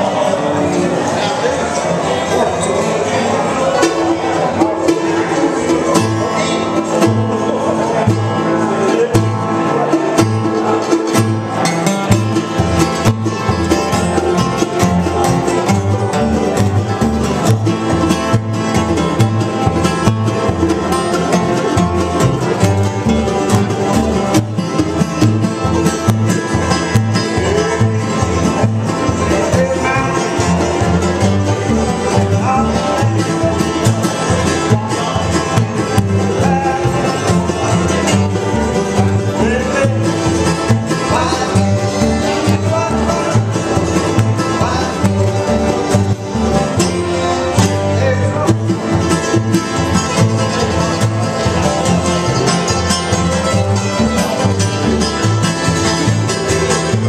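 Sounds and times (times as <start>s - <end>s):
banjo: 0.0s - 57.0s
mandolin: 0.0s - 57.0s
steel-string guitar: 0.0s - 57.0s
upright bass plucking: 0.0s - 57.0s.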